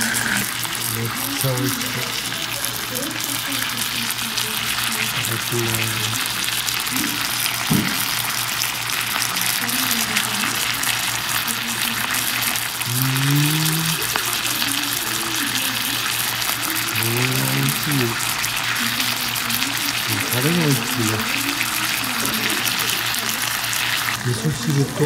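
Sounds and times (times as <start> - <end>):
food sizzling on hot plate: 0.0 - 25.0.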